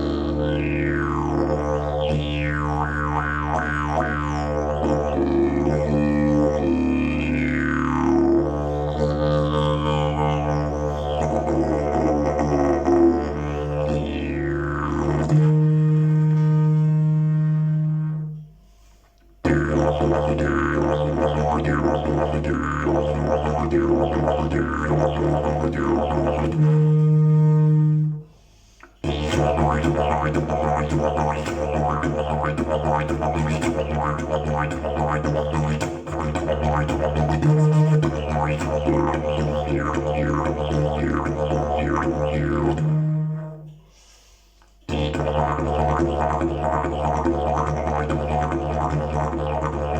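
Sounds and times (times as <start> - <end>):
didgeridoo low drone: 0.0 - 18.4, 19.4 - 28.2, 29.0 - 43.8, 44.9 - 49.9.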